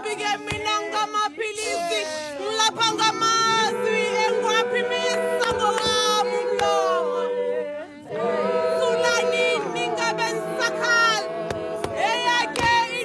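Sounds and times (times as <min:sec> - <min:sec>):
group of voices chanting: 0:00.0 - 0:13.0.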